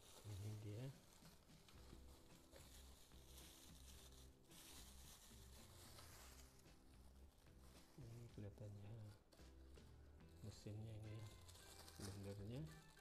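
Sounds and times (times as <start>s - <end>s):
plastic bag crinkling: 0.0s - 9.6s, 10.3s - 13.0s.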